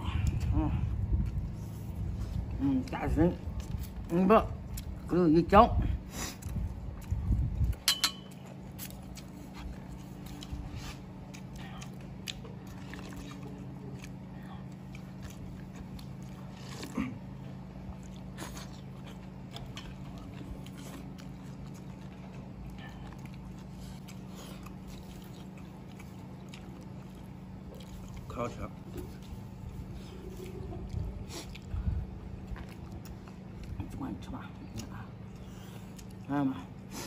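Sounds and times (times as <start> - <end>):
steady low hum: 0.0 - 37.0
slurping and chewing: 6.1 - 33.9, 34.6 - 37.0.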